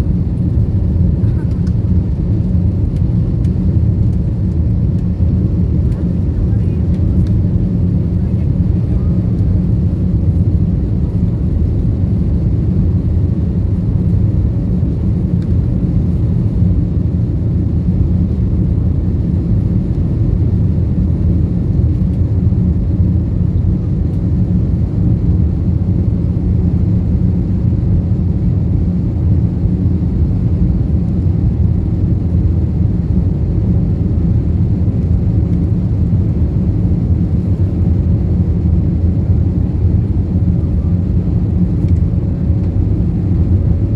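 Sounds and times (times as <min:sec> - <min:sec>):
jet engines rumbling in cabin: 0:00.0 - 0:43.9.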